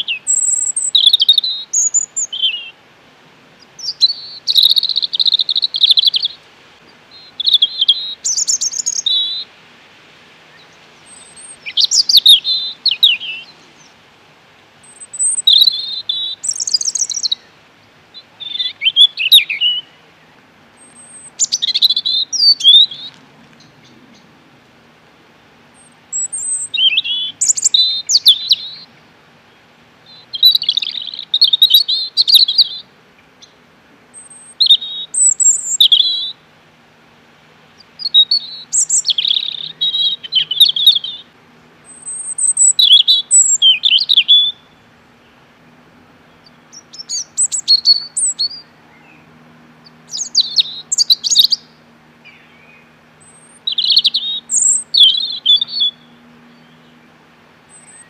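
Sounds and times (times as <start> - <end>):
robin singing: 0.0 - 9.6, 10.4 - 14.0, 14.8 - 24.4, 25.7 - 36.5, 37.7 - 58.0.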